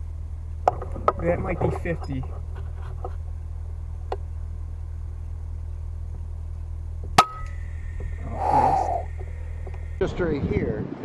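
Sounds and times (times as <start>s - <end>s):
engine idling: 0.0s - 10.3s.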